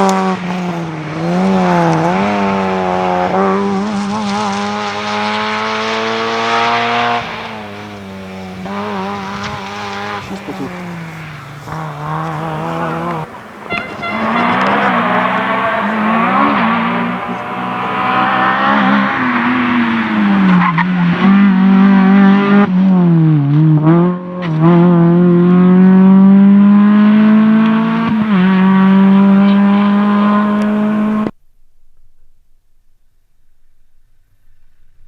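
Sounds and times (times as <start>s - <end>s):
rally car engine revving: 0.0s - 31.4s.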